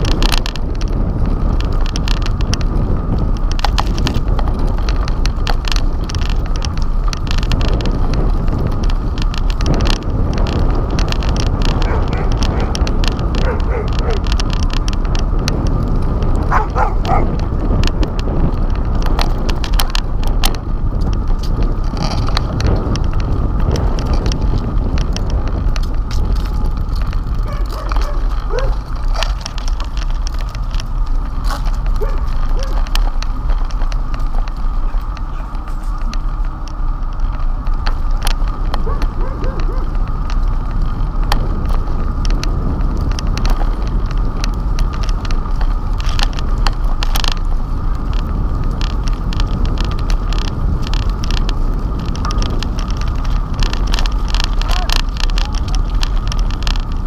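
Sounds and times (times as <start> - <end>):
bike clicks and rattles: 0.0 - 57.0
wind and road rumble: 0.0 - 57.0.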